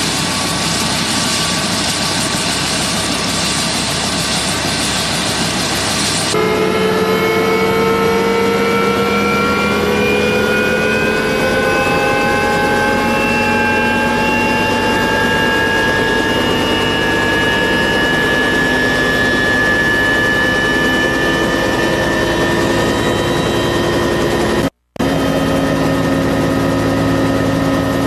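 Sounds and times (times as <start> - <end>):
helicopter turbine whine rising: 0.0 - 28.0.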